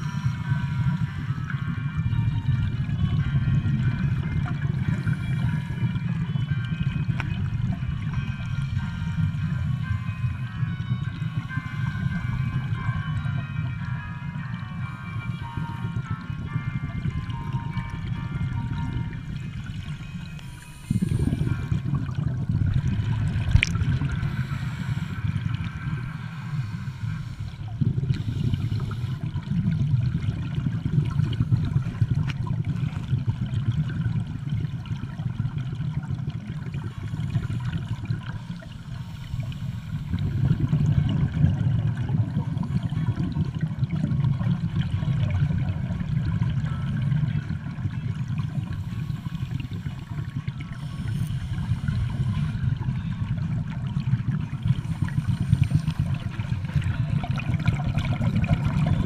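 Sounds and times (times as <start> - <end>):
underwater scuba breathing: 0.0 - 2.0, 3.6 - 34.5, 35.7 - 59.0
bubbles gurgling: 0.0 - 59.0.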